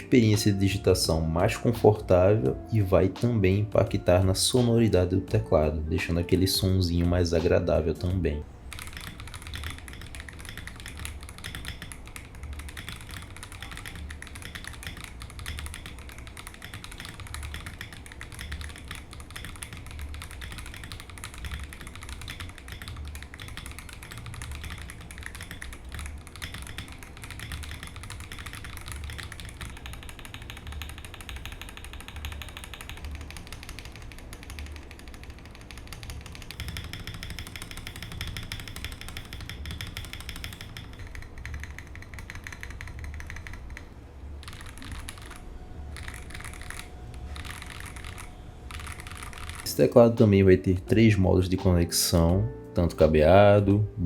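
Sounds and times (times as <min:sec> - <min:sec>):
mechanical keyboard typing: 0:00.0 - 0:52.2.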